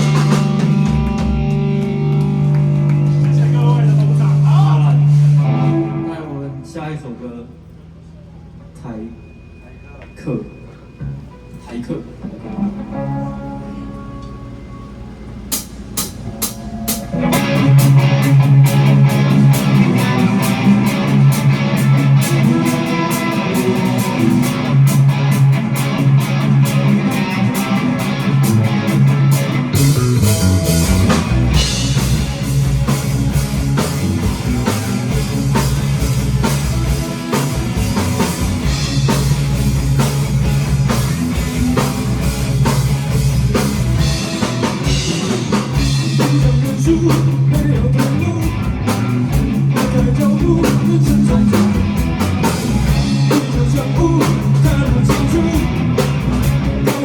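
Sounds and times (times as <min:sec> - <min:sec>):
drum kit: 0:00.0 - 0:05.5, 0:15.5 - 0:57.0
electric guitar: 0:00.0 - 0:06.8, 0:12.2 - 0:57.0
bass guitar: 0:00.0 - 0:06.9, 0:12.4 - 0:57.0.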